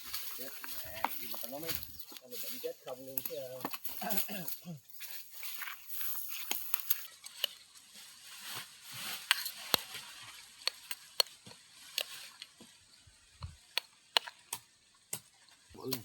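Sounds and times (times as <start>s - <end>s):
campfire crackling and popping: 0.0s - 7.6s, 9.2s - 16.0s.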